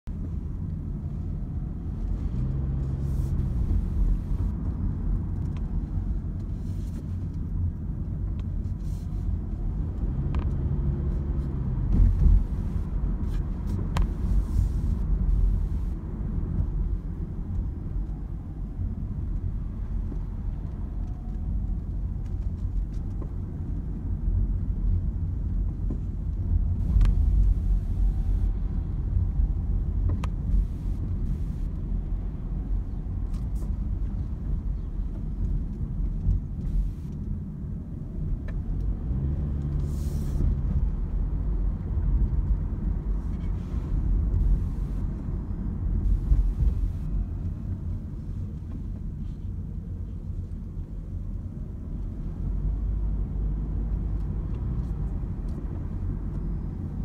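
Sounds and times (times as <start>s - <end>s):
car road noise rumble: 0.0s - 57.0s
engine hum: 0.1s - 57.0s.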